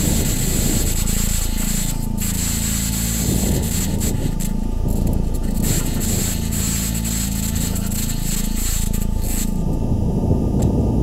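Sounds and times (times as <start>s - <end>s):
steady high hiss: 0.0s - 10.4s
low gliding synth tones: 0.0s - 11.0s.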